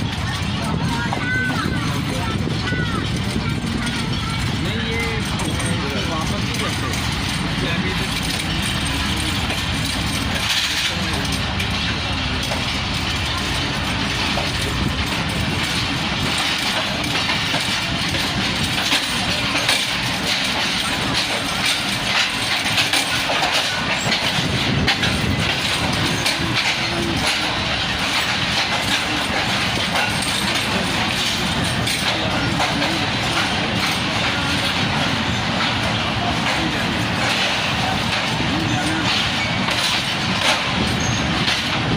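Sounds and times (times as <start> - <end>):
train wheels clattering on rails: 0.0 - 41.9.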